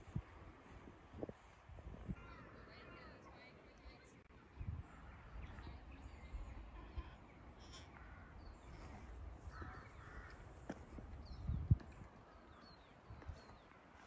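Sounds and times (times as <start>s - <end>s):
wind rumble on microphone: 0.0s - 3.2s, 4.3s - 7.1s, 8.4s - 13.8s.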